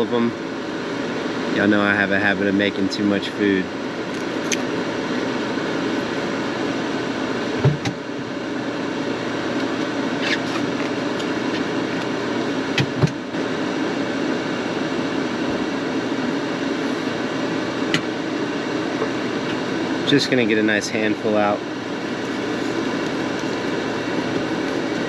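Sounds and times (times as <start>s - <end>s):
air fryer fan whirring: 0.0s - 25.0s.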